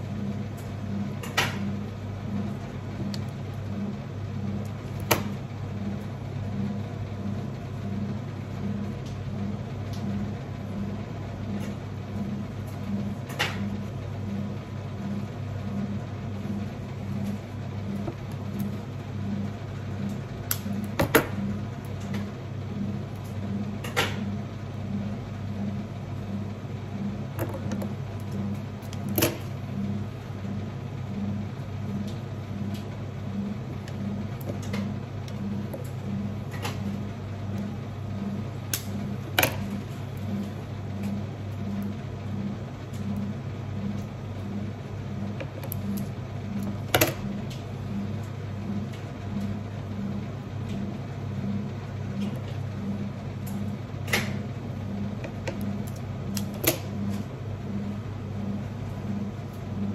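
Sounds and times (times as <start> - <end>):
pulsing low machine hum: 0.0 - 59.9.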